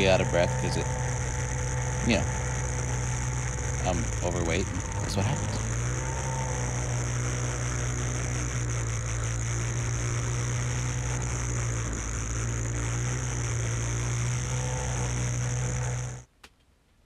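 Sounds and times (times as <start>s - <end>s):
high hiss: 0.0s - 16.3s
snowmobile engine running: 0.0s - 16.3s.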